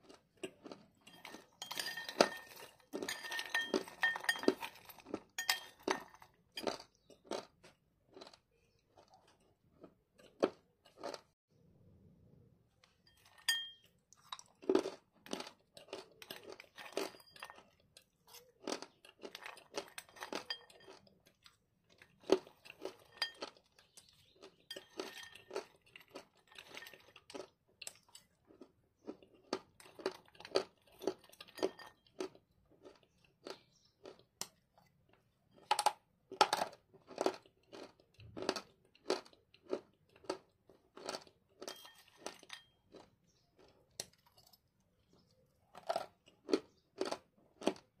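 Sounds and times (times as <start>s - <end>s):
person chewing crunchy clay: 0.0s - 11.4s, 12.8s - 48.0s.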